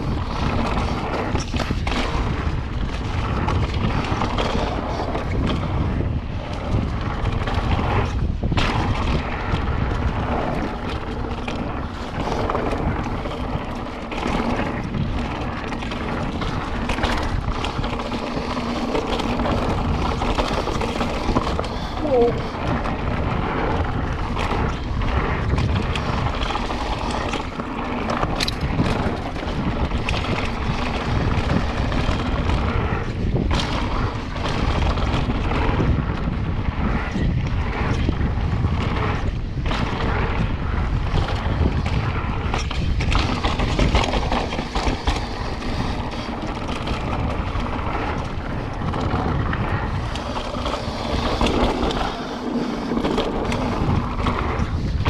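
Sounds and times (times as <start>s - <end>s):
bike knocks and rattles: 0.0s - 55.0s
bike tyres rolling: 0.0s - 55.0s
wind buffeting microphone: 0.0s - 55.0s.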